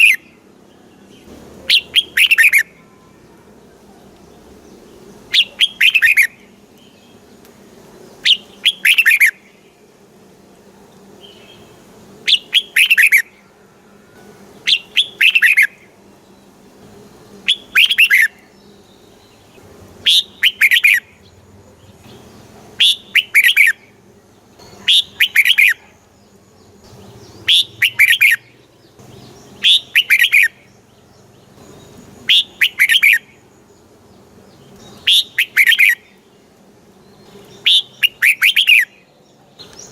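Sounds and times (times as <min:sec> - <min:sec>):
bird singing: 0:00.0 - 0:10.0, 0:11.0 - 0:16.6, 0:17.2 - 0:39.9.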